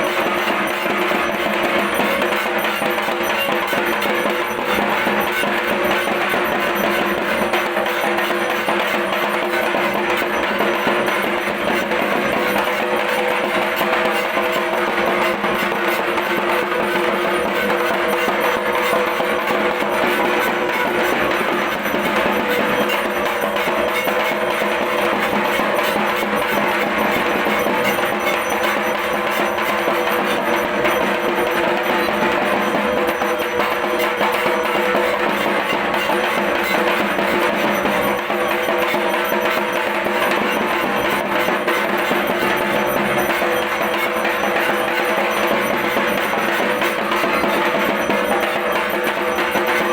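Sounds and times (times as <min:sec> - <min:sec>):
fast steady drumming: 0:00.0 - 0:49.9
metallic bell-like percussion: 0:00.0 - 0:49.9.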